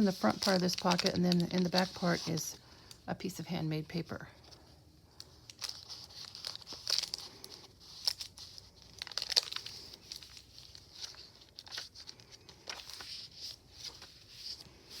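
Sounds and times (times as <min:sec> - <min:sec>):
paper pages rustling and crinkling: 0:00.0 - 0:02.6, 0:04.4 - 0:15.0.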